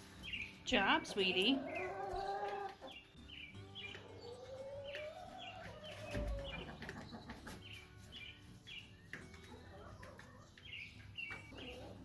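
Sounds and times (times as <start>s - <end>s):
hens chirping: 0.0s - 12.0s.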